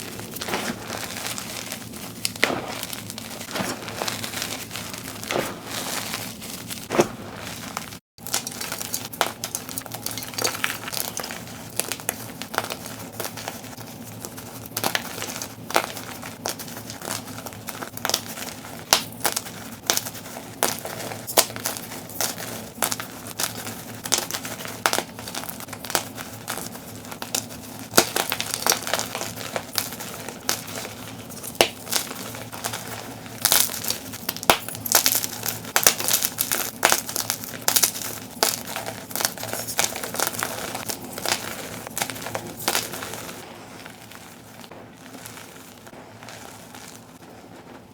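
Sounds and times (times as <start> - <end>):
chalk blocks being crushed: 0.0 - 47.9.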